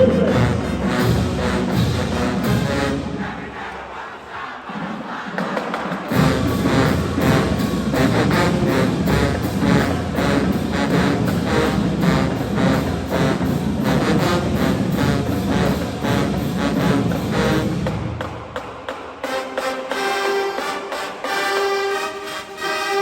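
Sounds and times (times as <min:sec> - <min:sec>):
marching band brass and drums: 0:00.0 - 0:23.0.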